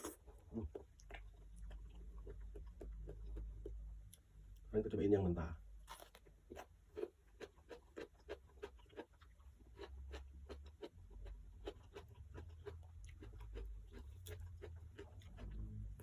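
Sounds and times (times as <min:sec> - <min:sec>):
crunchy chewing: 0:00.0 - 0:04.2, 0:05.8 - 0:16.0.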